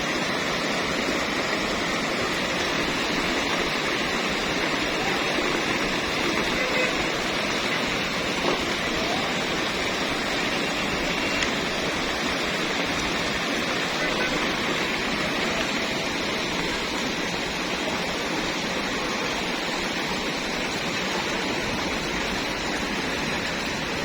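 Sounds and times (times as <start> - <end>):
sea water rushing: 0.0 - 24.0.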